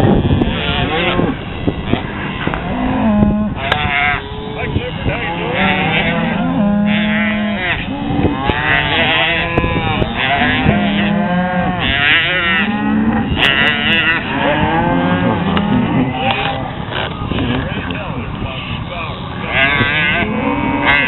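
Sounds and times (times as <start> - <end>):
herd of cattle mooing: 0.0 - 17.9, 18.6 - 21.0.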